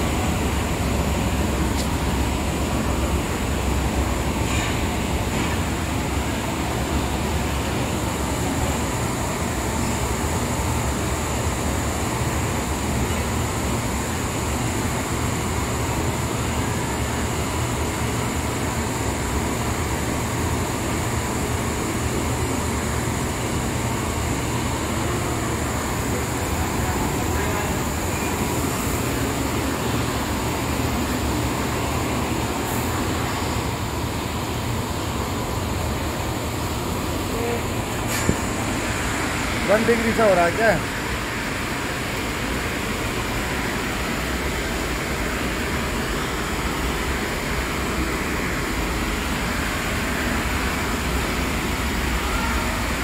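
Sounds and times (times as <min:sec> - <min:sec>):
dyeing machine humming: 0:00.0 - 0:53.0.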